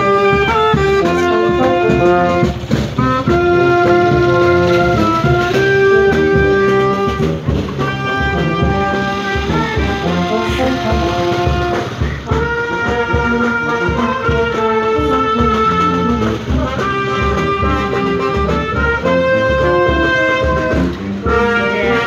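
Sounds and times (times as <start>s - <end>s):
bass drum beat: 0.0s - 22.0s
horns playing slow melody: 0.0s - 22.0s.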